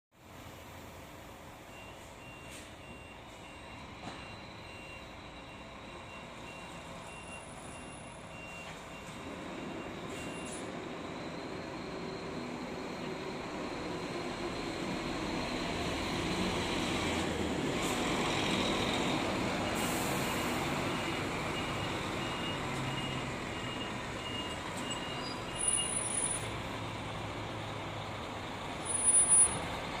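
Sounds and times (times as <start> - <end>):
diesel engine pulling away: 0.6 - 30.0.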